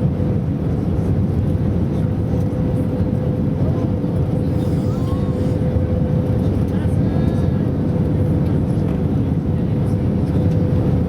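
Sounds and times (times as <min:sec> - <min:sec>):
airliner cabin engine noise: 0:00.0 - 0:11.0.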